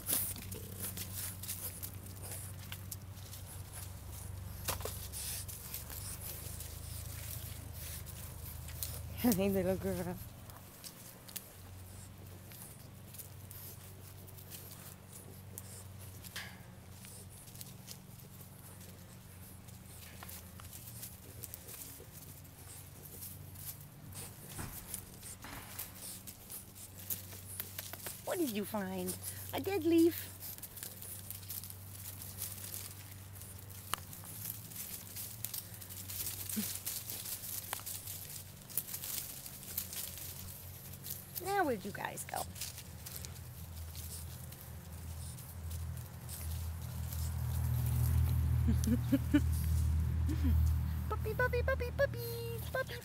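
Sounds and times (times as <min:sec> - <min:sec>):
paws rustling through dry leaves: 0:00.0 - 0:51.0.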